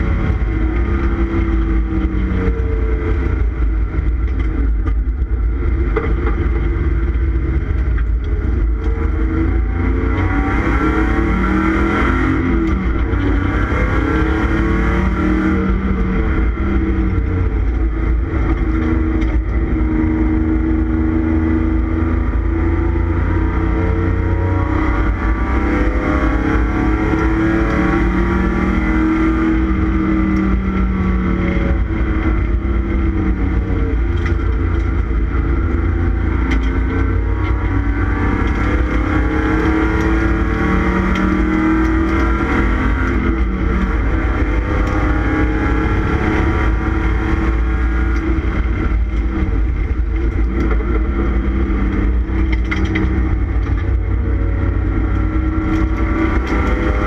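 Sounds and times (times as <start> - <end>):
race car engine revving: 0.0 - 57.0
road and wind noise: 0.0 - 57.0.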